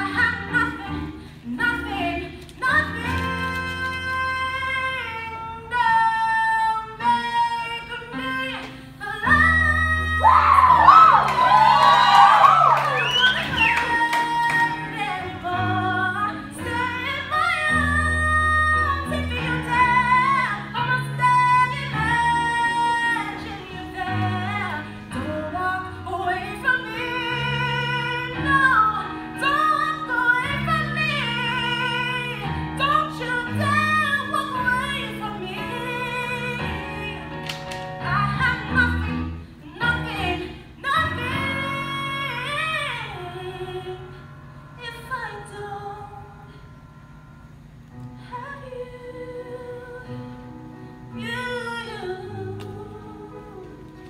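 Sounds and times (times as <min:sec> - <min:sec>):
woman singing a power ballad: 0:00.0 - 0:46.6, 0:48.1 - 0:54.0.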